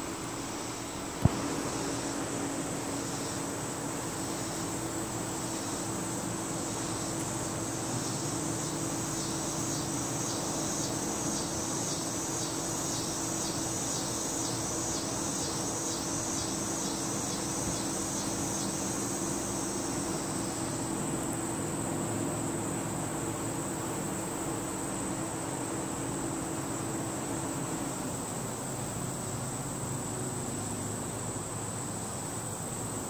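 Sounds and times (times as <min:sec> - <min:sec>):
insect high-pitched trill: 0:00.0 - 0:33.0
insect pulsing buzz: 0:00.0 - 0:33.0
steady low hum: 0:00.0 - 0:33.0.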